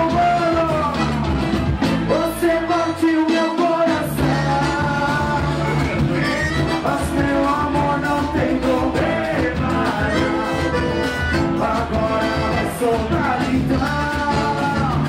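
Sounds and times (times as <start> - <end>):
live band playing upbeat song: 0.0 - 15.0.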